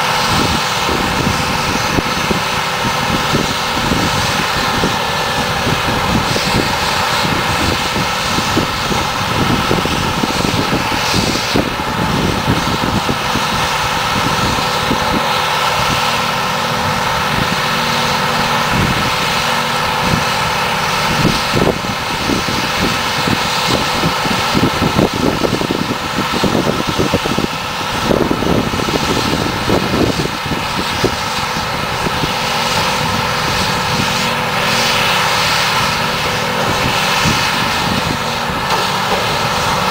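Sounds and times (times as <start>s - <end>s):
forage harvester droning: 0.0s - 39.9s
tractor running: 0.0s - 39.9s.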